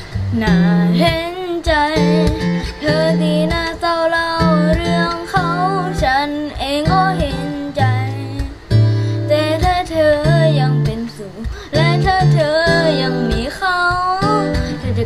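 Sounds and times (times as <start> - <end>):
strummed guitar: 0.0 - 15.0
boy singing: 0.3 - 8.6, 9.3 - 15.0.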